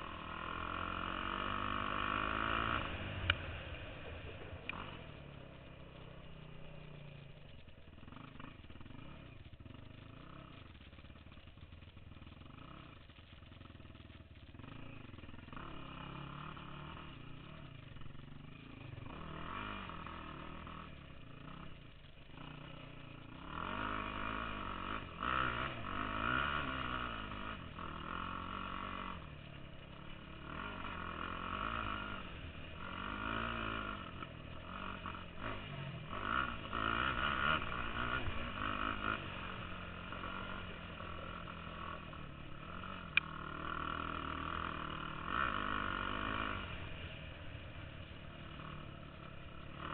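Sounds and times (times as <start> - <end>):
quad bike engine revving: 0.0 - 49.9.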